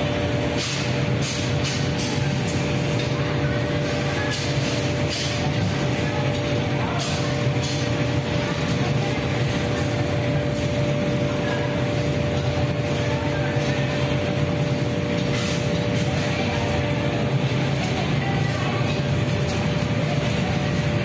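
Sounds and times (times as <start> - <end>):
electric fans humming: 0.0 - 21.0
furnace burners roaring: 0.0 - 21.0.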